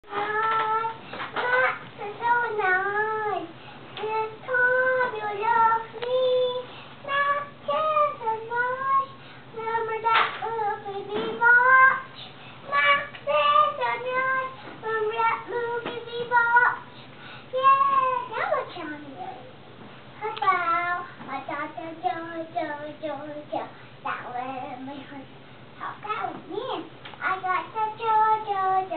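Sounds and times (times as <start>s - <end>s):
girl singing: 0.0s - 19.6s, 20.2s - 28.9s.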